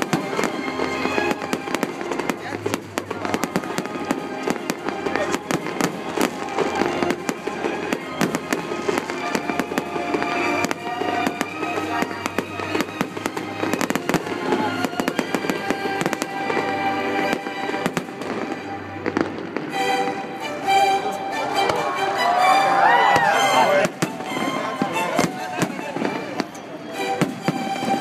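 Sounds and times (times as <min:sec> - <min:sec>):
fireworks bangs and crackles: 0:00.0 - 0:19.8, 0:23.1 - 0:28.0
music playing: 0:00.0 - 0:28.0.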